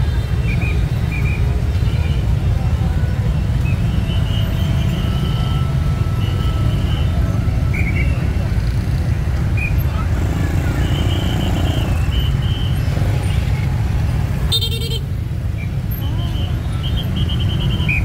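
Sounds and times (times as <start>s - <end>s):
traffic engines rumbling: 0.0s - 18.0s.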